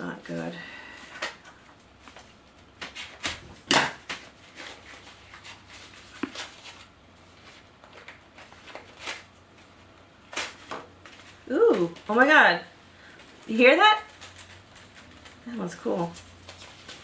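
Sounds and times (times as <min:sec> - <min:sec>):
paper wrapping crinkling: 0:01.2 - 0:12.2, 0:13.0 - 0:17.0.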